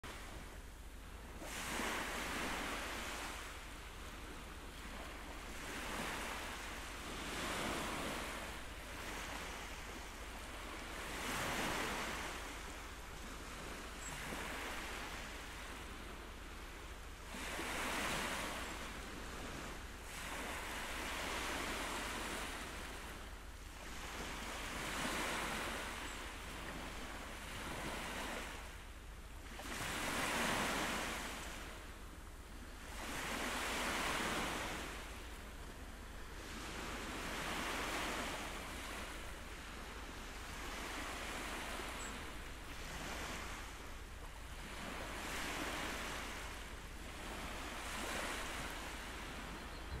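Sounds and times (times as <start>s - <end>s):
sea waves washing in and out: 0.0s - 50.0s.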